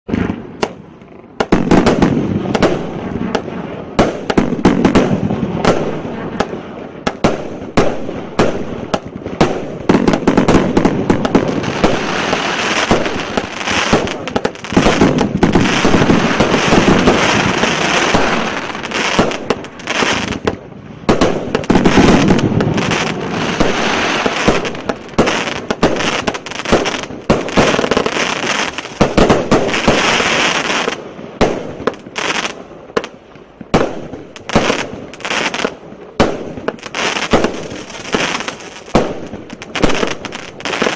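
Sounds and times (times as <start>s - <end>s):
fireworks bangs and crackling: 0.1s - 40.9s.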